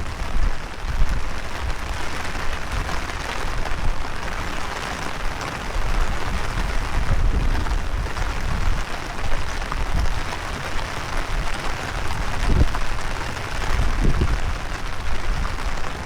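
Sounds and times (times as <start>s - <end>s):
heavy rain falling: 0.0s - 16.0s
wind buffeting microphone: 0.0s - 16.0s.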